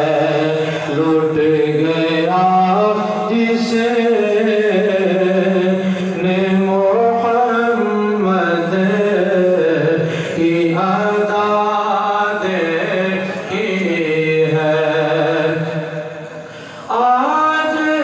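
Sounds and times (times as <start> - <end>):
man chanting into a microphone: 0.0 - 18.0.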